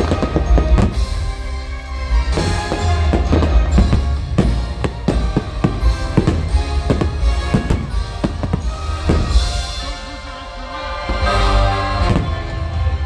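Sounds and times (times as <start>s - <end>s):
fireworks bangs: 0.0s - 1.5s, 2.2s - 12.6s
fireworks show music: 0.0s - 13.0s.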